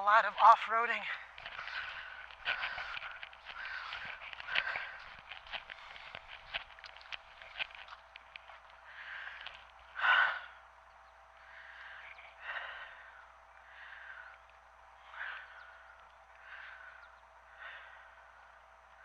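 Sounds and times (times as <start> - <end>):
person breathing heavily: 1.0 - 7.8, 8.4 - 10.8, 11.4 - 19.0.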